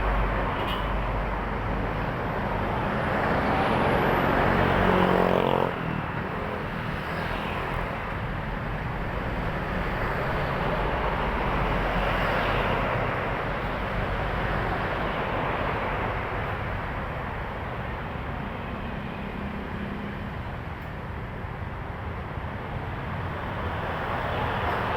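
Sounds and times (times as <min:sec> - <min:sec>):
highway traffic passing: 0:00.0 - 0:24.9.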